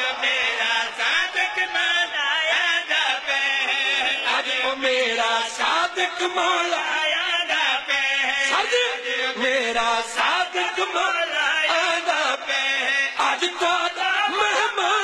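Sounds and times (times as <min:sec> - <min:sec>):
men chanting into a microphone: 0:00.0 - 0:15.0.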